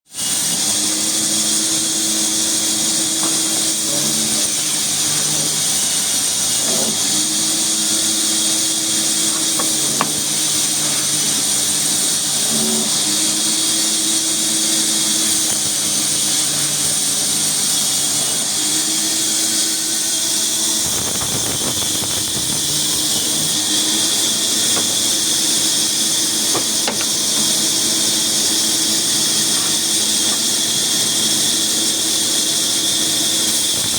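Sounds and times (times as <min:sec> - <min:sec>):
sawmill machinery hissing and droning: 0:00.1 - 0:33.9.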